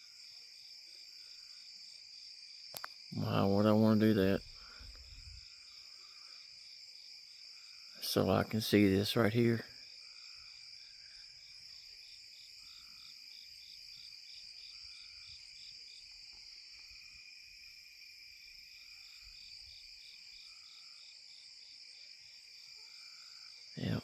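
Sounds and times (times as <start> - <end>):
insect chirping: 0.0 - 24.0
insects trilling: 0.0 - 24.0
lower insect call: 0.0 - 24.0.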